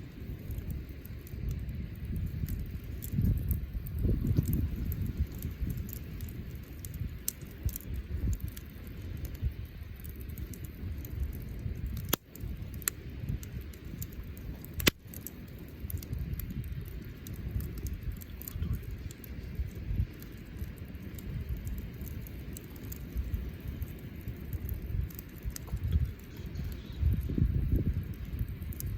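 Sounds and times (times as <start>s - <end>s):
bonfire crackling: 0.0s - 28.9s
low fire rumble: 0.0s - 28.9s
sharp pops from fire: 0.0s - 28.9s.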